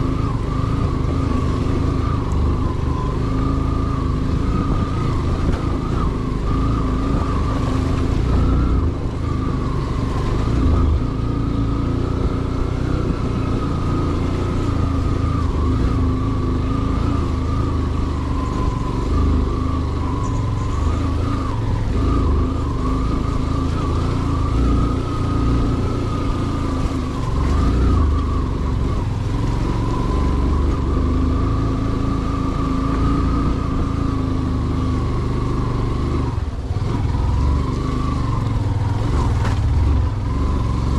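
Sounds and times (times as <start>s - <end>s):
vehicle engine running: 0.0s - 40.9s
wavering whine: 0.0s - 40.9s.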